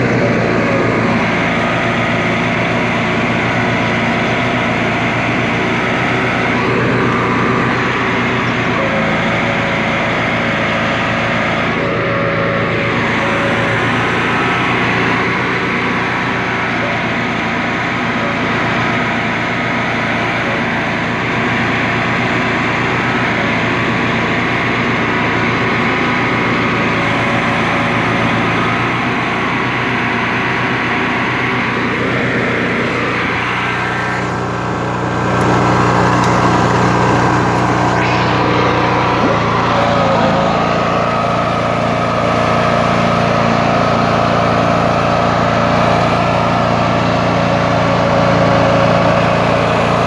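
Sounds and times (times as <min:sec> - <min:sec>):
garden tractor engine running: 0:00.0 - 0:50.0.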